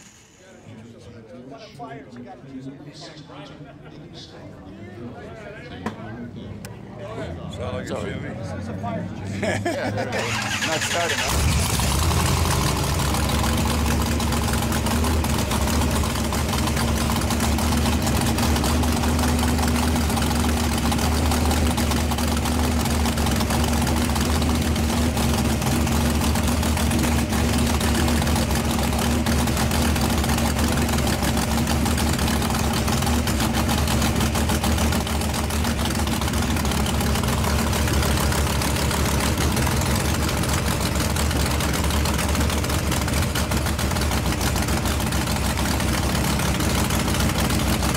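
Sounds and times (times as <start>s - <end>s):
drag car engine idling cackle: 0.0s - 0.7s, 6.7s - 47.9s.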